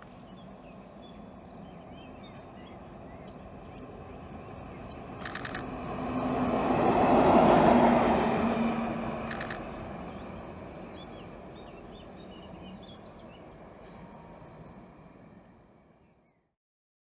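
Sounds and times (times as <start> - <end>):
locomotive passing: 0.0 - 16.0.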